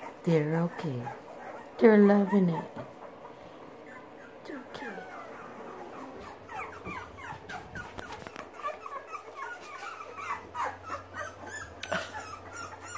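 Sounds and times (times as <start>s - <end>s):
puppies whimpering and squealing: 0.0s - 12.9s.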